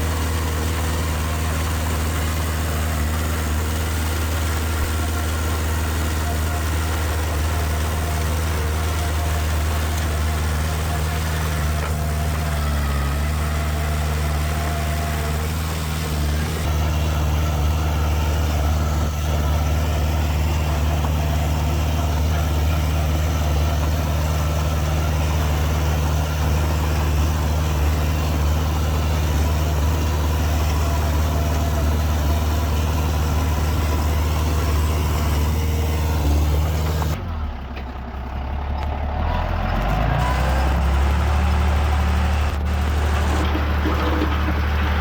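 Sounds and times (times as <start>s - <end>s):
heavy diesel engine running: 0.0s - 45.0s.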